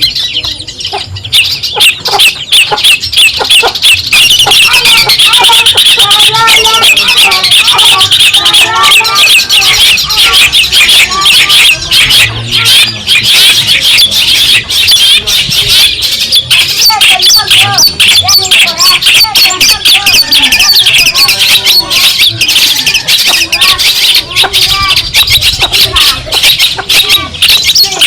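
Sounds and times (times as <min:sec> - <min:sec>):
shrike chattering chirps: 0:00.0 - 0:28.0.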